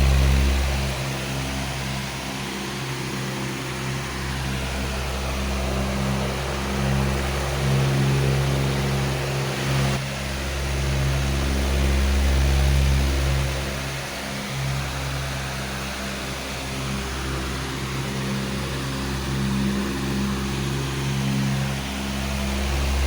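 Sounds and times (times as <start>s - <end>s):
fan air rushing: 0.0s - 23.0s
fan motor hum: 0.0s - 23.0s.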